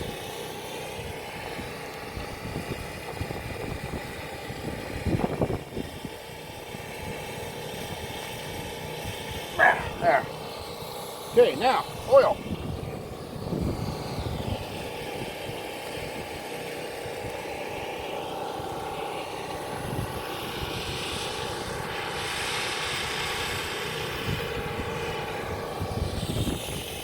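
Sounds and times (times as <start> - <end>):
propeller aircraft engine droning: 0.0 - 27.0.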